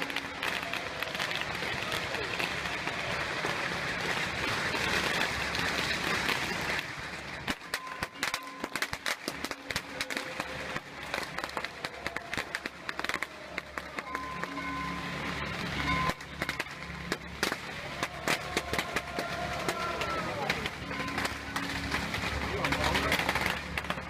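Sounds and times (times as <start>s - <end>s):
firecrackers crackling and banging: 0.0s - 24.0s.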